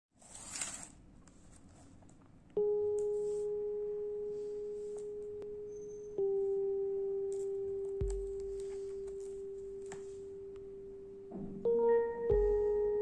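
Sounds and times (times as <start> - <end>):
pure ringing tones: 2.6 - 13.0.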